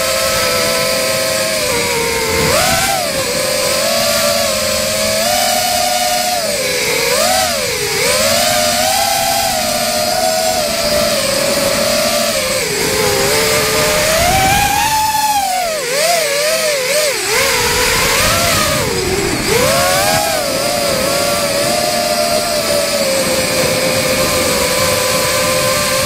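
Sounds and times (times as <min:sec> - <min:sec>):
rc car motor whining: 0:00.0 - 0:26.0.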